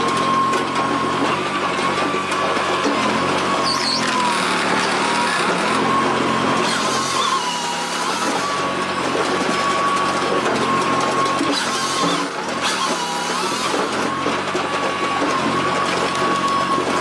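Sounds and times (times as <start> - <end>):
firewood processor engine hum: 0.0 - 17.0.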